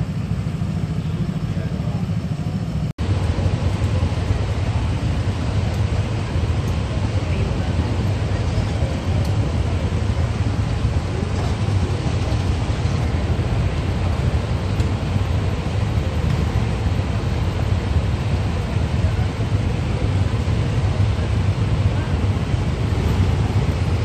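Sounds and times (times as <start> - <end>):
crowd chatter: 0.0 - 24.0
scooter engines idling: 0.0 - 24.0.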